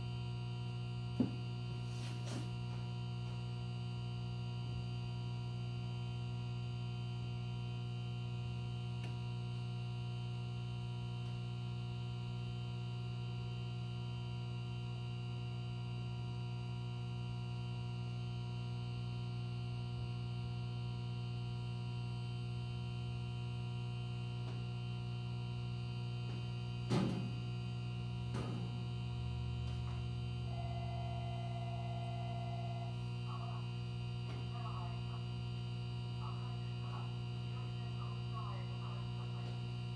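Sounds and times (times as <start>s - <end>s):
electric train equipment humming: 0.0s - 39.9s.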